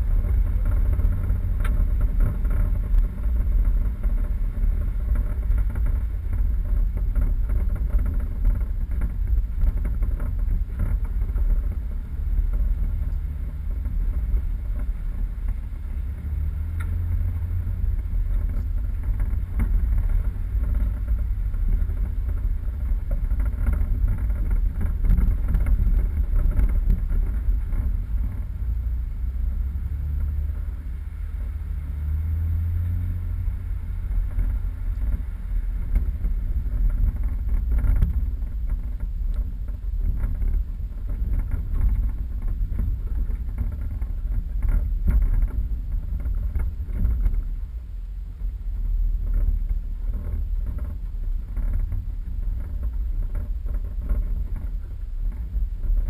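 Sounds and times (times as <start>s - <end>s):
small knocks and rattles: 0.0s - 56.0s
vehicle engine rumble: 0.0s - 56.0s.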